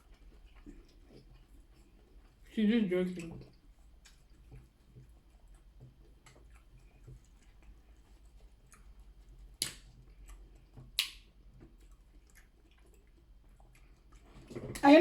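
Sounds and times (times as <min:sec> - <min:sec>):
eating clicks and chewing: 0:00.0 - 0:15.0.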